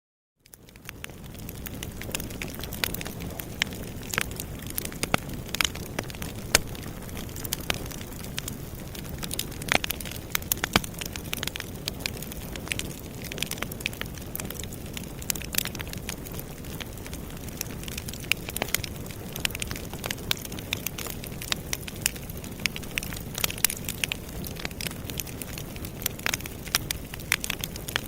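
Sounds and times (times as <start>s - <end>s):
campfire crackling and popping: 0.4s - 28.0s.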